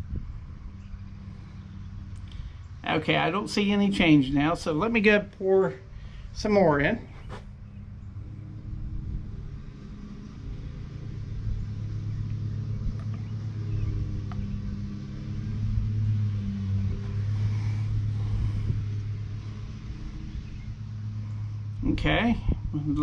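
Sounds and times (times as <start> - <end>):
motor droning: 0.0 - 23.0.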